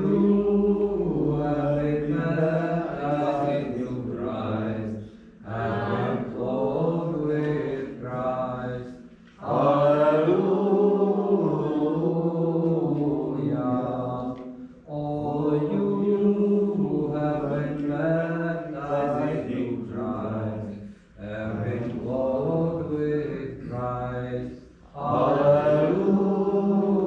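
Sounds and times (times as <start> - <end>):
voices chanting a hymn: 0.0 - 27.0.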